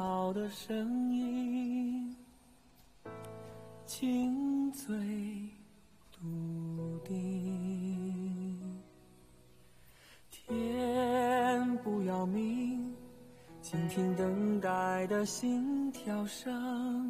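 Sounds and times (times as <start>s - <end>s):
person singing with vibrato: 0.0s - 2.5s, 3.8s - 9.0s, 10.3s - 17.0s
soft instrumental backing: 0.0s - 17.0s.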